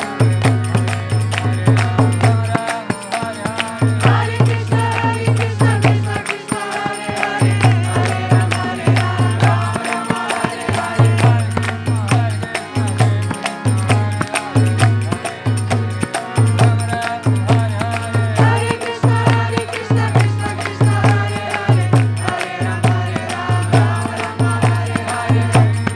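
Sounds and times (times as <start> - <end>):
percussion beat: 0.0 - 25.9
voices singing a mantra: 0.0 - 25.9.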